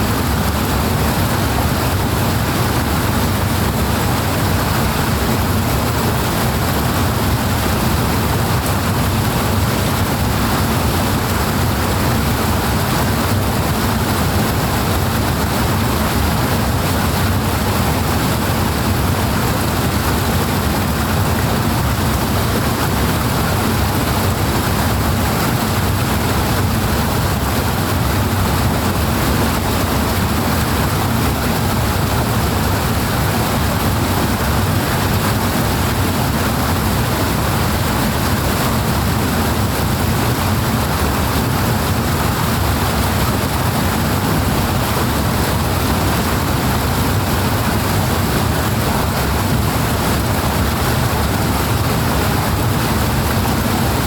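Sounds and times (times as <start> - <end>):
powerful rushing water: 0.0 - 54.0.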